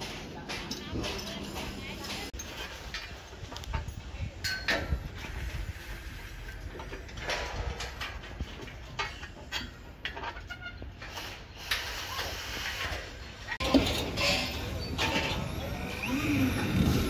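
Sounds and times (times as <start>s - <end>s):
scaffold pipes clanking: 0.0s - 11.8s, 12.9s - 17.0s.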